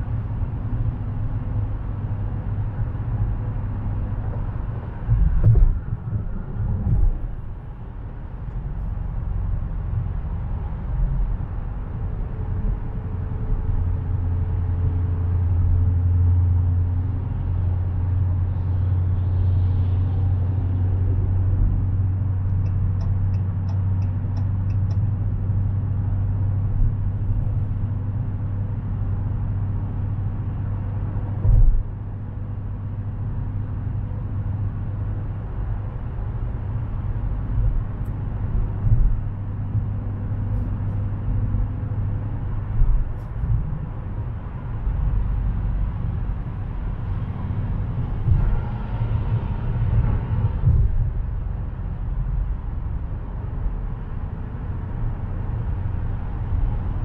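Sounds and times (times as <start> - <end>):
car engine and exhaust drone: 0.0 - 57.0.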